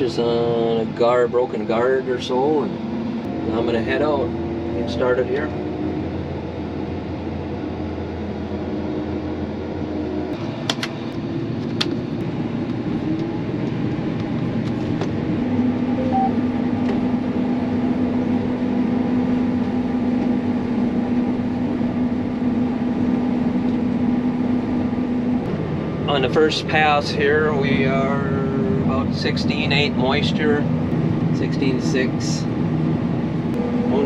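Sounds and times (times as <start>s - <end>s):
combine harvester running: 0.0s - 34.0s
steady hum: 0.0s - 34.0s.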